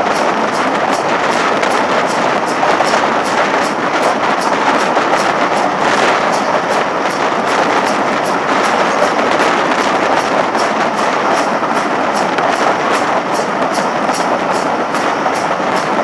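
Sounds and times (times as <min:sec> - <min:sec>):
steam locomotive beat: 0:00.0 - 0:16.0
train running at speed: 0:00.0 - 0:16.0.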